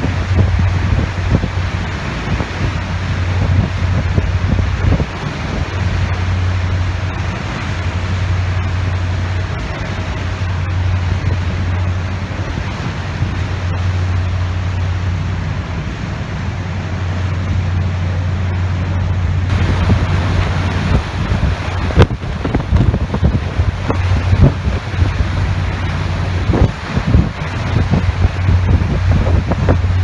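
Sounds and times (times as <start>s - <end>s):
boat engine humming: 0.0s - 30.0s
water rushing: 0.0s - 30.0s
wind on microphone: 0.0s - 30.0s.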